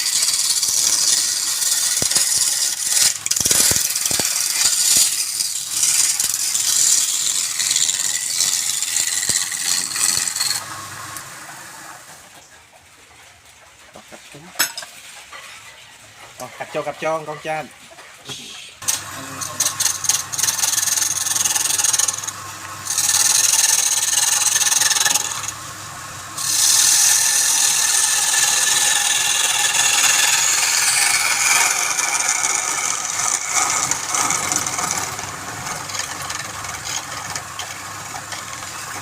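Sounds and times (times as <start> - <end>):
lathe tool scraping wood: 0.0 - 12.4, 18.8 - 39.0.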